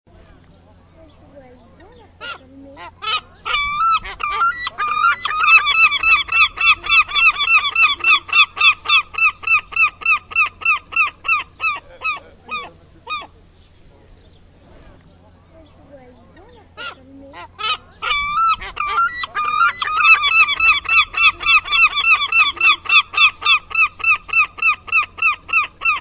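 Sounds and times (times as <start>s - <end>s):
gull calling: 2.0s - 13.5s, 16.4s - 26.0s.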